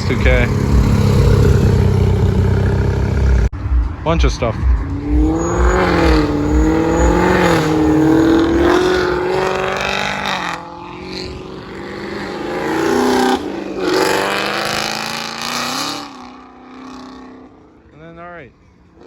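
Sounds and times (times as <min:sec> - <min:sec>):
cars passing at low speed: 0:00.0 - 0:19.0.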